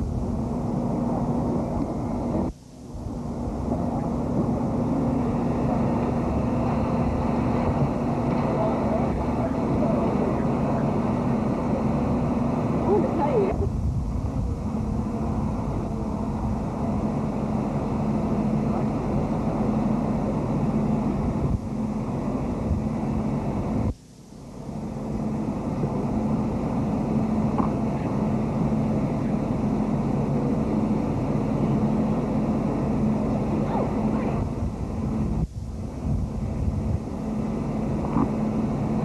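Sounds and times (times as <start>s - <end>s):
low hum: 0.0s - 39.0s.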